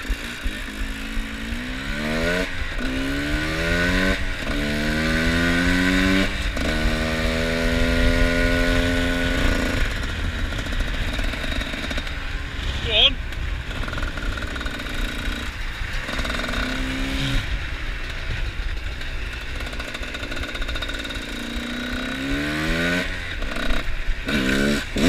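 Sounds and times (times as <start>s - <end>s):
motorcycle accelerating through gears: 0.0s - 25.0s.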